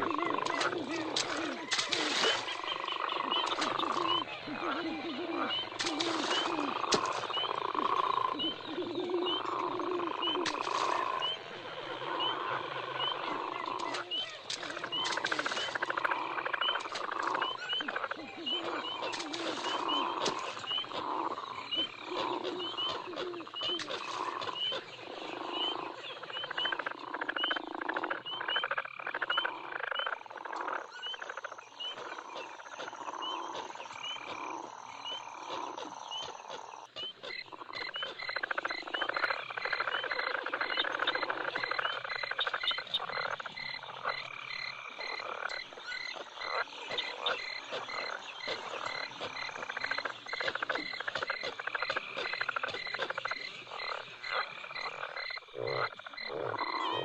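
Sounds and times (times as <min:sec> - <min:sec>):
frogs croaking: 0:00.0 - 0:57.0
insects chirping: 0:00.0 - 0:57.0.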